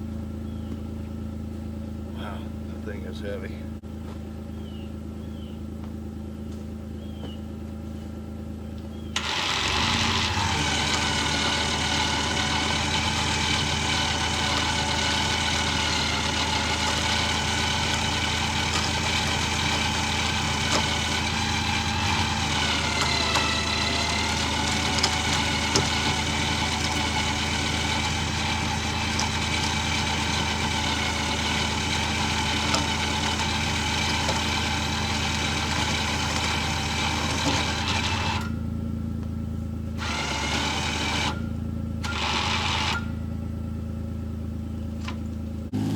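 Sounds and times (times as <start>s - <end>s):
utility vehicle engine revving: 0.0s - 45.9s.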